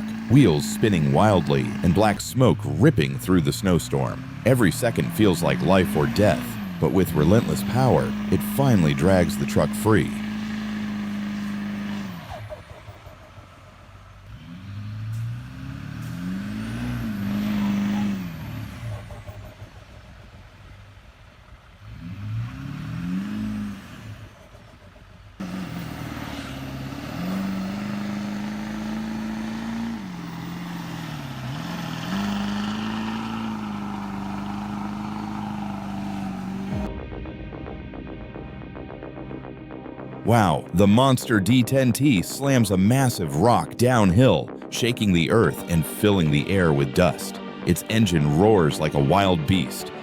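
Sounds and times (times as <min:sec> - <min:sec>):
heavy vehicle engine revving: 0:00.0 - 0:50.0.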